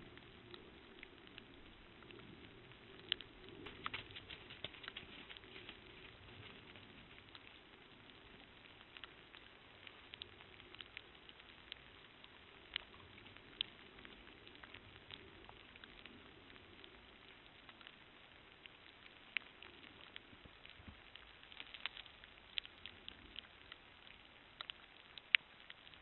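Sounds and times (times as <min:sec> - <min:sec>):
light rain patter: 0:00.0 - 0:26.0
sharp drip ticks: 0:00.0 - 0:26.0.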